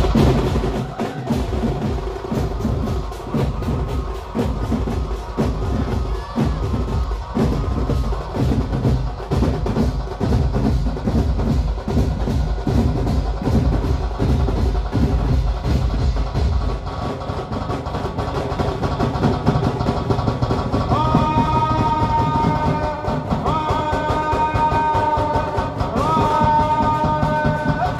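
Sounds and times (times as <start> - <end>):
heavy bass drum: 0.0 - 27.9
percussion band playing: 0.0 - 27.9.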